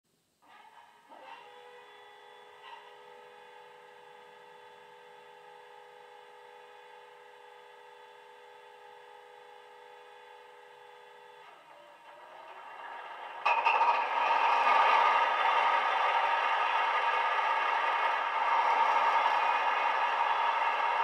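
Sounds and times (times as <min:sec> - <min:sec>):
model locomotive diesel idle: 0:01.2 - 0:21.0.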